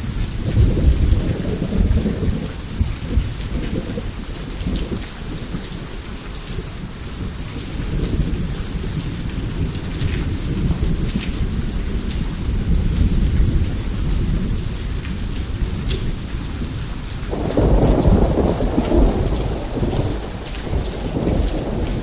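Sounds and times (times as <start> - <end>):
low roll of thunder: 0.0 - 5.8, 7.1 - 22.0
heavy rain falling: 0.0 - 22.0.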